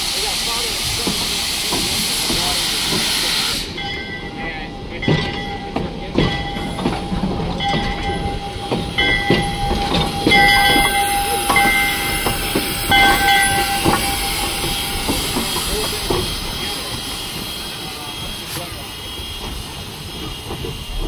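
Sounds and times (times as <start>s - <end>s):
train wheels clicking and knocking: 0.0s - 21.0s.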